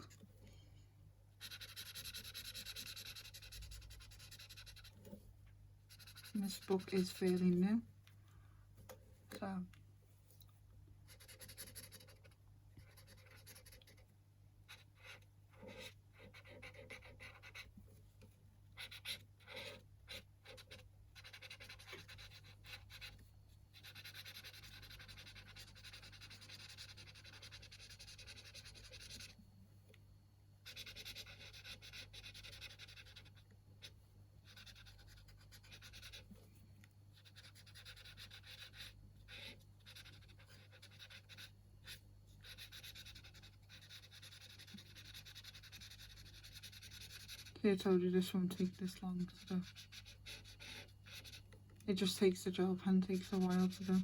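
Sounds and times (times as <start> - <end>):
low steady hum: 0.0 - 54.0
pen scratching on paper: 1.4 - 5.2, 5.9 - 7.6, 11.1 - 14.0, 14.7 - 17.8, 18.8 - 29.4, 30.6 - 36.4, 37.2 - 51.4, 52.0 - 54.0.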